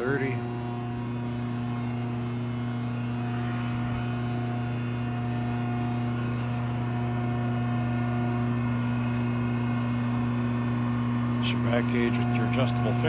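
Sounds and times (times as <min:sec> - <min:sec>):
hydraulic press motor humming: 0:00.0 - 0:13.0.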